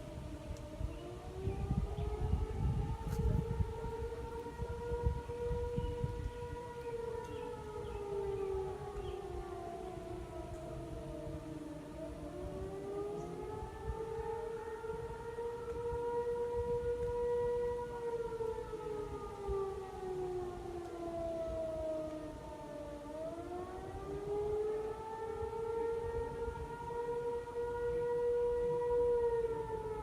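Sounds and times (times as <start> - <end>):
tornado siren wailing: 0.0 - 30.0.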